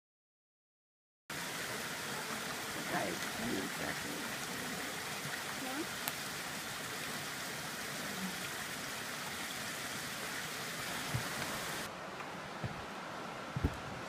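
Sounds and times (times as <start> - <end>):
creek water rushing: 1.3 - 14.0.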